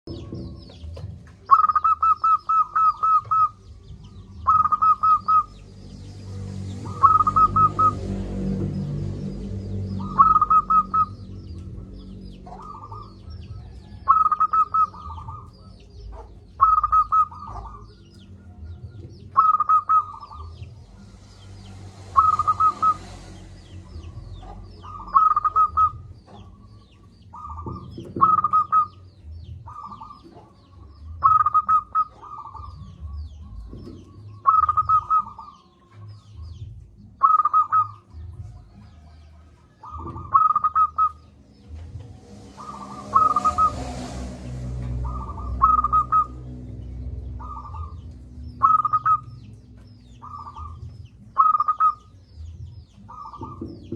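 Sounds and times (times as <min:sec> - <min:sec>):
low rumble: 0:00.0 - 0:37.2, 0:38.0 - 0:53.9
high chirps of small birds: 0:00.0 - 0:53.9
dove cooing: 0:00.1 - 0:05.7, 0:06.5 - 0:21.0, 0:22.1 - 0:35.8, 0:37.2 - 0:41.4, 0:42.6 - 0:49.6, 0:50.2 - 0:52.2, 0:53.0 - 0:53.9.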